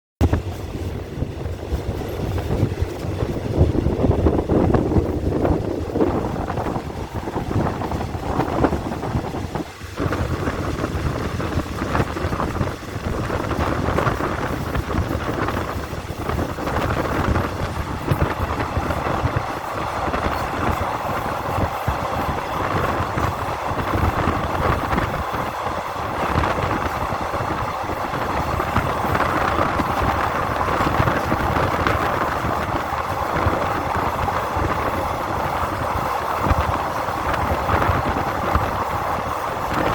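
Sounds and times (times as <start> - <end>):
train running on rails: 0.2 - 39.9.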